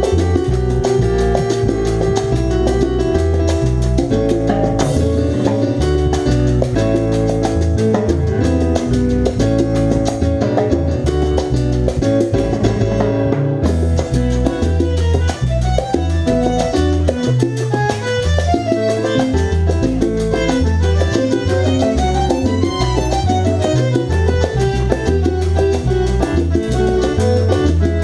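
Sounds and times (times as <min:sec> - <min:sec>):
bass line: 0:00.0 - 0:28.0
keyboard: 0:00.0 - 0:28.0
salsa band playing: 0:00.0 - 0:28.0
timbales and hand percussion: 0:00.0 - 0:28.0.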